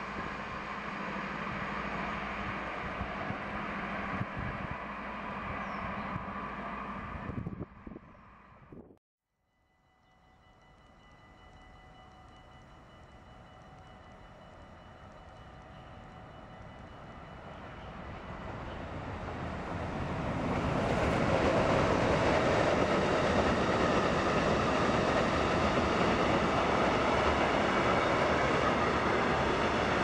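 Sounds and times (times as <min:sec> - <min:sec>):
freight train passing: 0:00.0 - 0:08.7, 0:09.6 - 0:30.0.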